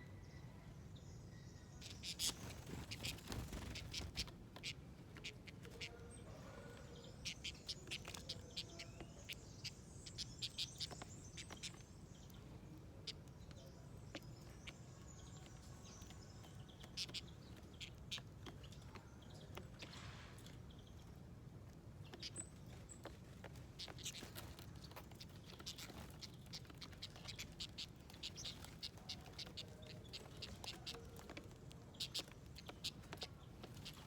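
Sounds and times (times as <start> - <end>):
faint background noise: 0.0 - 34.0
small birds chirping: 0.0 - 34.0.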